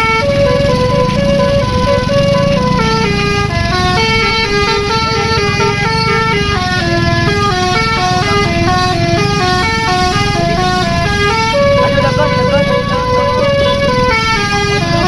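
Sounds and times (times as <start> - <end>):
bus engine rumble: 0.0 - 15.0
musical air horn melody: 0.0 - 15.0.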